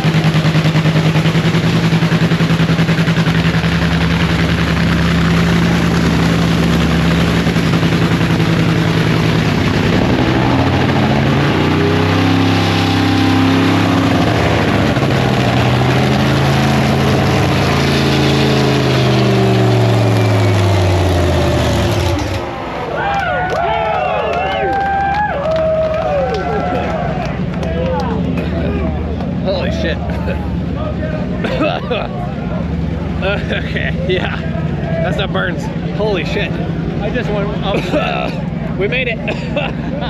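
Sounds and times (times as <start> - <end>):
racing engine idling and revving: 0.0 - 40.0.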